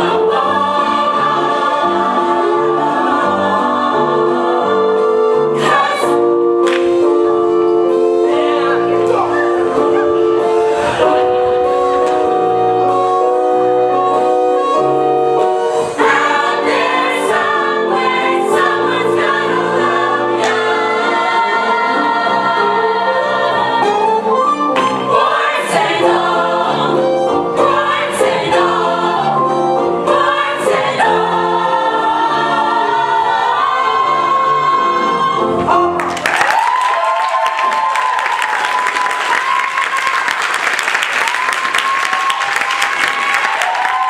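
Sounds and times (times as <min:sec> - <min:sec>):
chorus singing: 0:00.0 - 0:36.0
instrumental accompaniment: 0:00.0 - 0:36.4.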